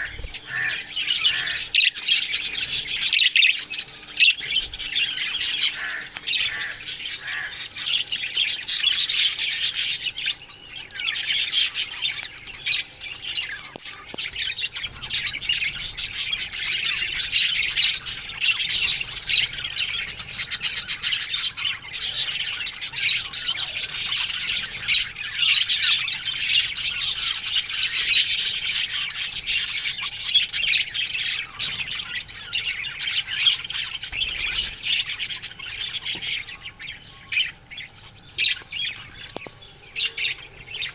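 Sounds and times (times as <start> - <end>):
budgies chirping and squawking: 0.0 - 40.9.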